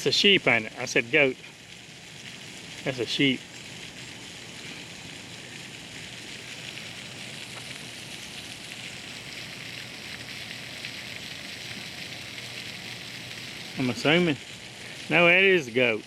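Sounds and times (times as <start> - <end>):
water fountain splashing: 0.0 - 16.0.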